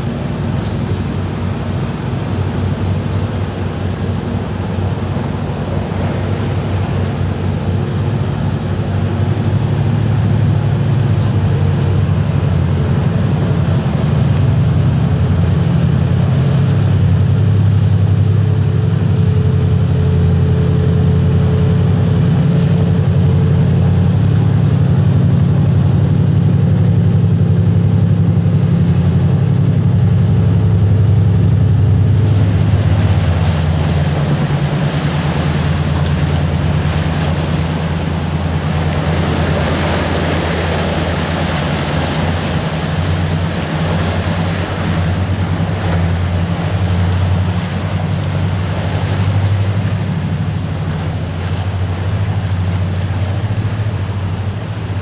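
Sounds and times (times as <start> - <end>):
ferry engines droning: 0.0 - 55.0
rushing water of wake: 0.0 - 55.0.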